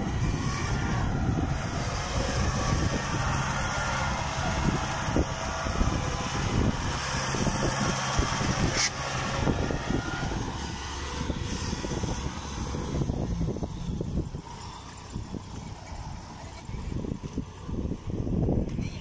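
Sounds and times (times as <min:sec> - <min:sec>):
combine harvester diesel engines: 0:00.0 - 0:19.0.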